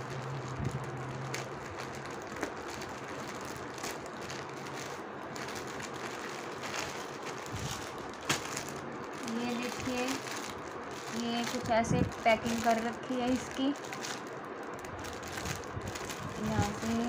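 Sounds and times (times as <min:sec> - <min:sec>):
plastic mailer rustling and crinkling: 0:00.0 - 0:17.0.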